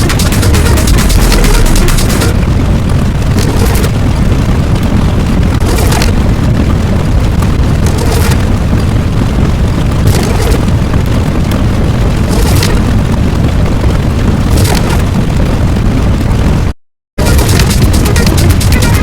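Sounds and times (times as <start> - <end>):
explosion rumble: 0.0 - 19.0.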